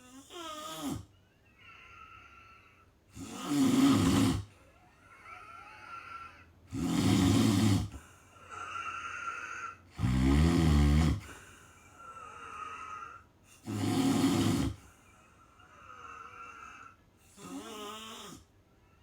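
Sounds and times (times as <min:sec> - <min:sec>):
person snoring: 0:00.0 - 0:02.1, 0:03.1 - 0:04.5, 0:05.1 - 0:14.9, 0:15.6 - 0:18.5
quiet breathing: 0:00.0 - 0:19.0.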